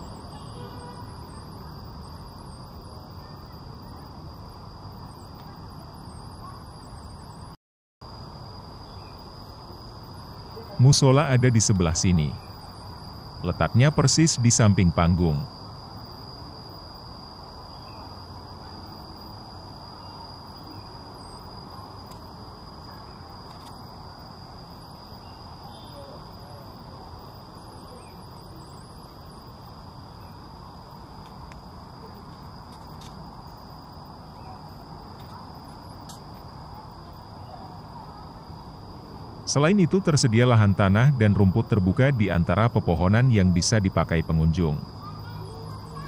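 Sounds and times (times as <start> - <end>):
insects trilling: 0.0 - 46.0
low background noise: 0.0 - 46.0.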